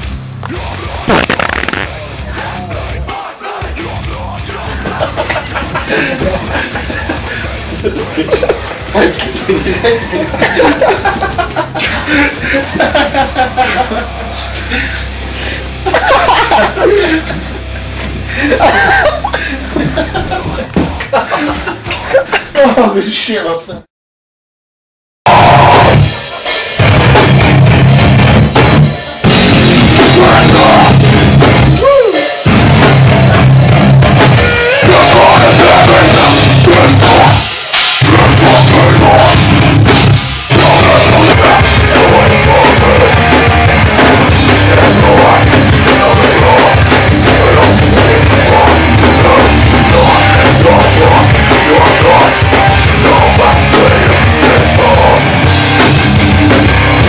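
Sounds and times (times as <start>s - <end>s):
heavy rock band playing live: 0.0s - 21.1s, 25.3s - 57.0s.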